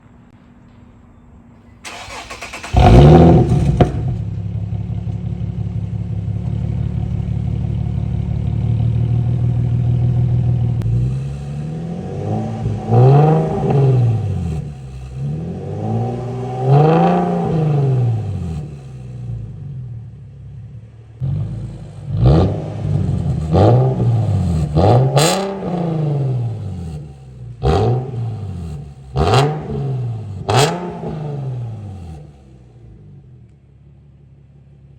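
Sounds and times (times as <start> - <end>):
car engine starting and revving: 1.8 - 33.5.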